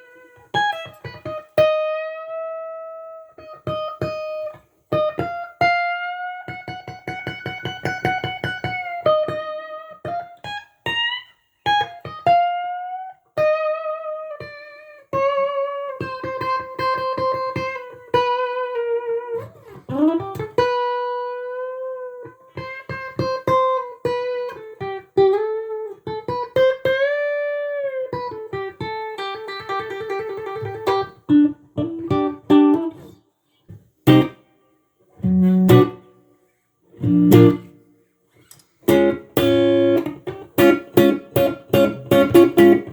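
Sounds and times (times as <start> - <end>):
electric guitar lead: 0.0 - 33.2, 34.0 - 34.5, 35.1 - 36.2, 36.9 - 37.8, 38.8 - 42.9.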